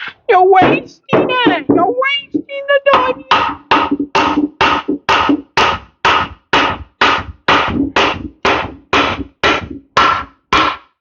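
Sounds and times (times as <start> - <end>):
hammer striking metal: 0.0 - 11.0.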